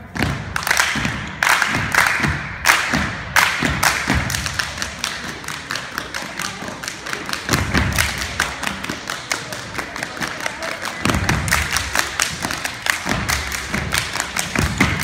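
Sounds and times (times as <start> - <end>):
hands clapping: 0.1 - 15.0.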